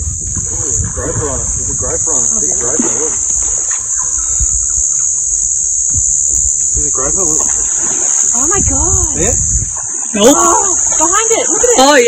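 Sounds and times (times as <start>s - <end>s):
low rumble: 0.0s - 9.8s
insects shrilling: 0.0s - 12.0s.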